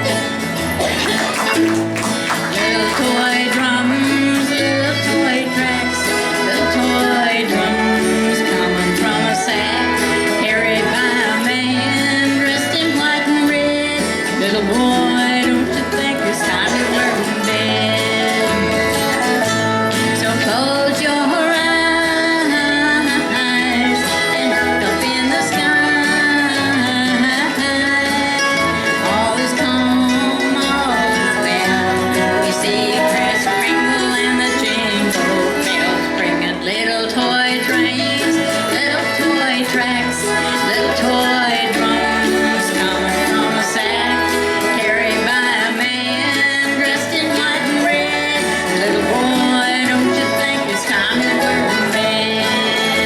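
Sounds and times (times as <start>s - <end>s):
acoustic bluegrass band playing: 0.0s - 53.0s.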